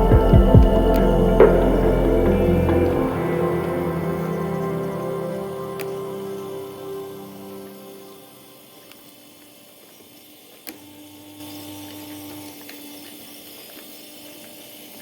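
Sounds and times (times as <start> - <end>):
small electric motor whine: 0.0 - 15.0.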